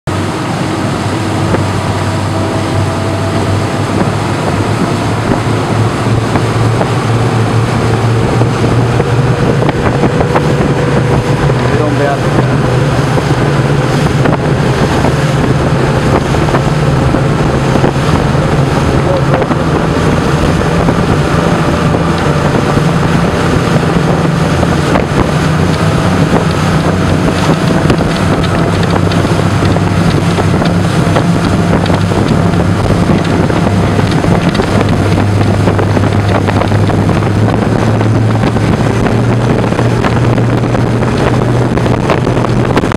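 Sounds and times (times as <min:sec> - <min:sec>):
boat wake rushing: 0:00.0 - 0:42.9
outboard engines droning: 0:00.1 - 0:42.9
wind on microphone: 0:00.1 - 0:42.9.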